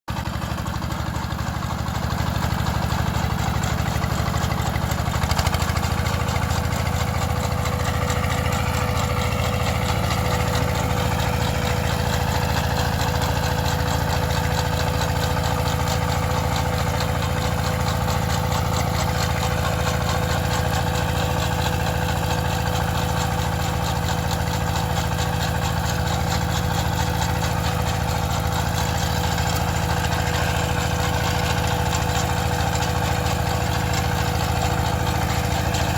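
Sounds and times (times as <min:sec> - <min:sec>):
farm machine engine running: 0:00.1 - 0:35.9.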